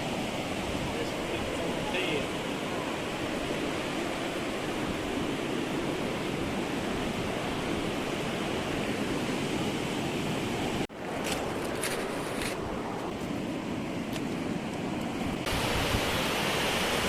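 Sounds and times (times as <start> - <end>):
ocean surf on a beach: 0.0 - 17.0.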